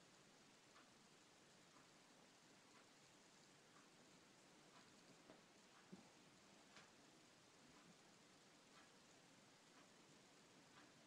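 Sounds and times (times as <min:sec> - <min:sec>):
faint soft ticks: 0:00.0 - 0:11.0.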